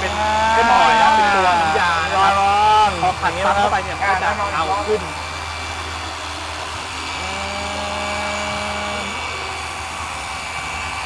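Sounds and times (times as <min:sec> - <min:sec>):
polisher motor hum: 0:00.0 - 0:11.0.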